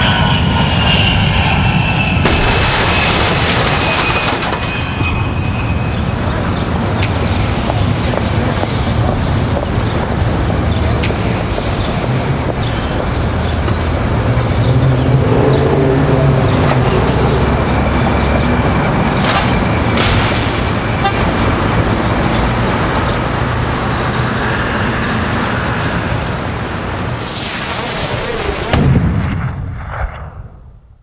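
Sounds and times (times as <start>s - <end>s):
traffic rumble: 0.0s - 29.9s.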